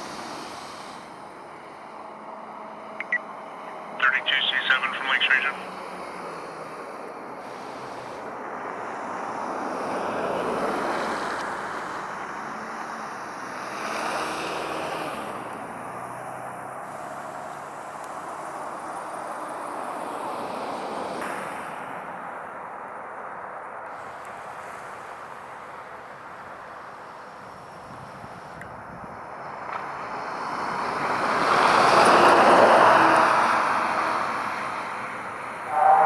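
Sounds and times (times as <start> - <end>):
vehicles passing: 0.2 - 36.0.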